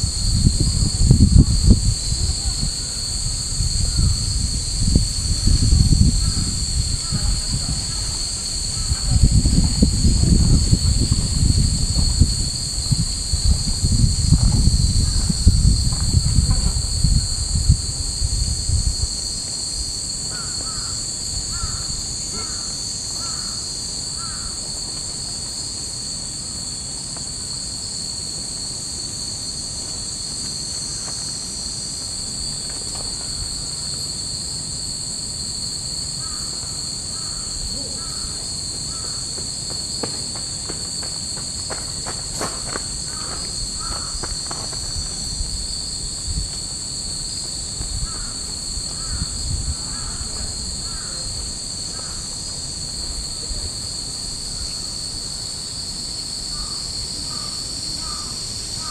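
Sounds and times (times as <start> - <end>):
cicadas droning: 0.0 - 58.9.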